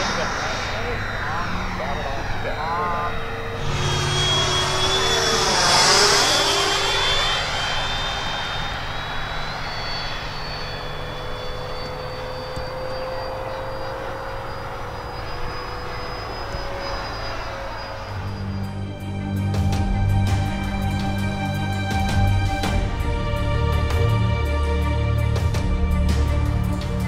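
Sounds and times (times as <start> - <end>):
model jet fan whining: 0.0 - 24.0.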